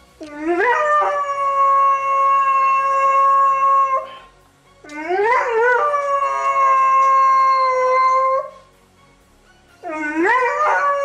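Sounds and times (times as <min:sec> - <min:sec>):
dog howling: 0:00.3 - 0:04.3, 0:04.9 - 0:08.6, 0:09.8 - 0:11.0.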